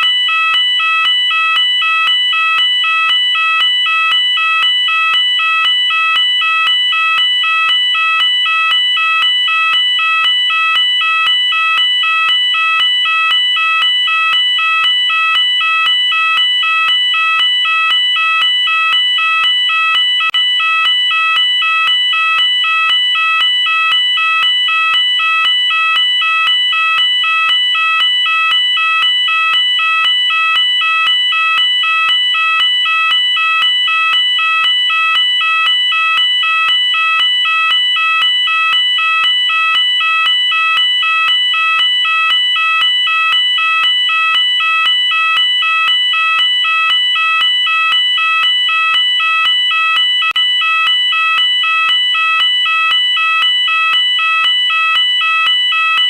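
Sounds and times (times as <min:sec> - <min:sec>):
two-tone fire alarm warble: 0:00.0 - 0:56.0.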